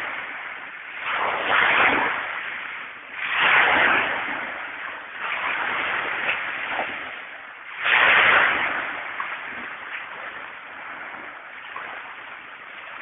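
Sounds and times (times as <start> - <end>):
waves washing up pebble beach: 0.0 - 13.0.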